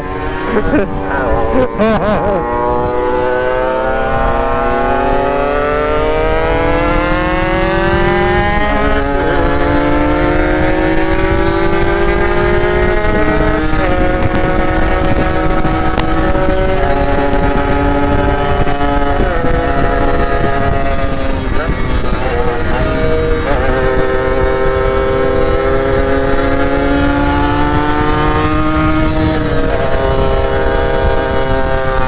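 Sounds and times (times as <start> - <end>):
steady rushing noise: 0.0 - 32.0
two-stroke motorcycle engine: 0.0 - 32.0.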